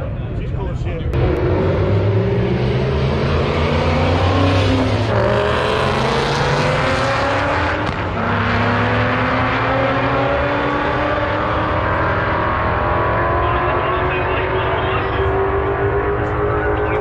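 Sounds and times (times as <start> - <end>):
car engine accelerating hard: 1.1 - 17.0.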